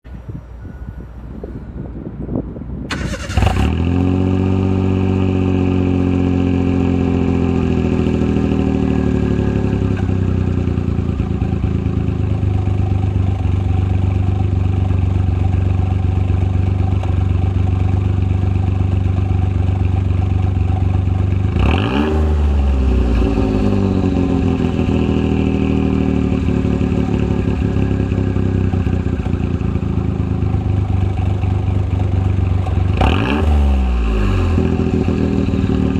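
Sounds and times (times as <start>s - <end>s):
car engine idling: 4.2s - 21.6s, 22.2s - 33.0s, 33.8s - 35.9s.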